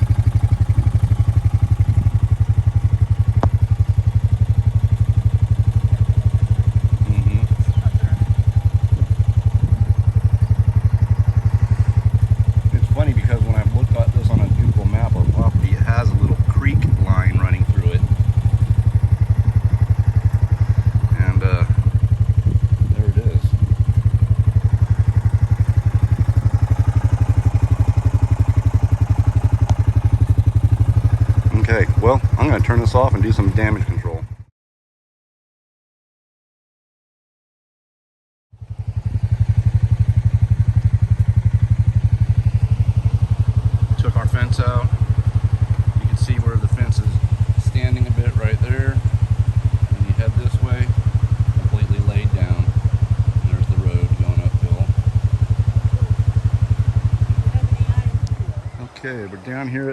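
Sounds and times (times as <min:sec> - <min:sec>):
motorcycle engine idling: 0:00.0 - 0:34.5, 0:38.5 - 0:59.9.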